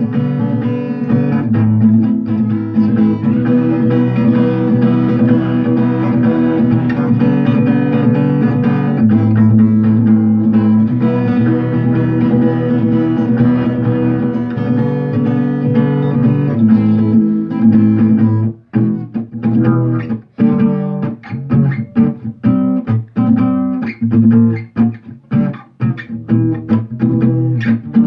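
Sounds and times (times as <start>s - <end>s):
guitar plucked notes: 0.0s - 28.0s.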